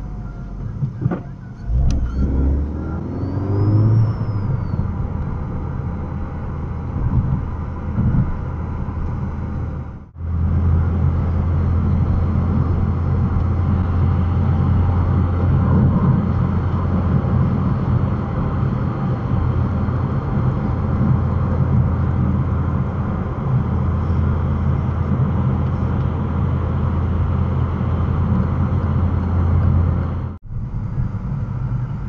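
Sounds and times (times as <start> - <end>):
car rolling slowly: 0.0 - 32.0
road and engine drone in car: 0.0 - 32.0.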